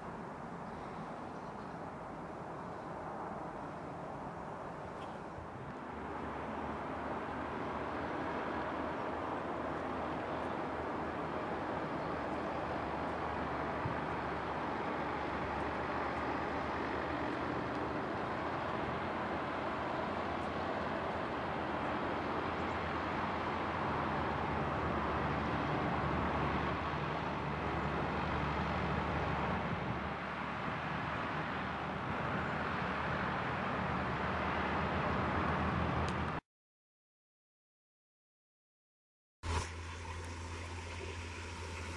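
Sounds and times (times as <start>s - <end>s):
tractor engines droning: 0.0s - 36.4s, 39.5s - 41.9s.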